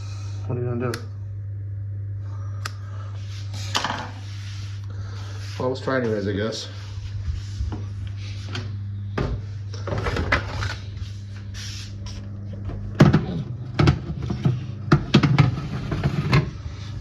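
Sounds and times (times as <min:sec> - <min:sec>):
low appliance hum: 0:00.0 - 0:17.0.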